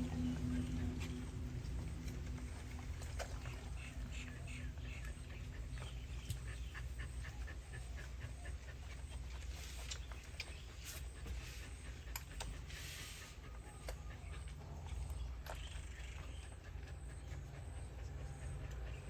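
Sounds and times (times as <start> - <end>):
steady low hum: 0.0 - 19.0
puppy breathing: 1.2 - 19.0.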